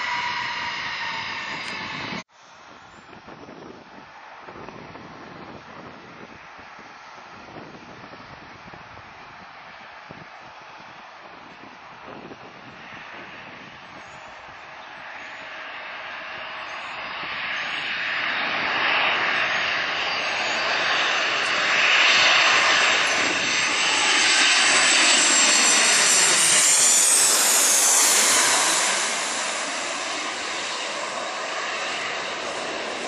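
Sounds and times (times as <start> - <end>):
jet airliner passing overhead: 0.0 - 2.5, 3.8 - 33.0.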